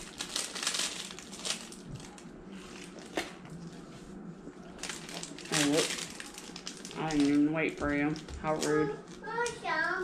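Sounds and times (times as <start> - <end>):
plastic wrapper crinkling: 0.0 - 3.4, 4.6 - 10.0.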